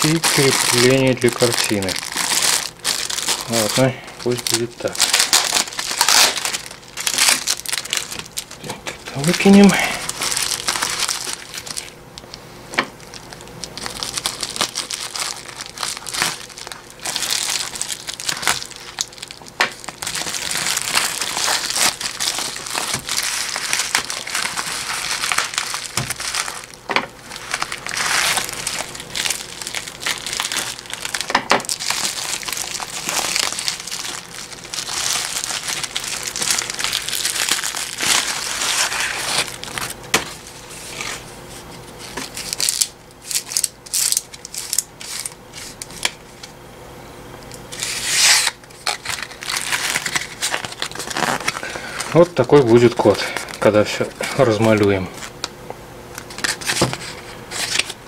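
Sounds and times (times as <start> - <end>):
bubble wrap crinkling: 0.0 - 46.6, 47.7 - 58.0.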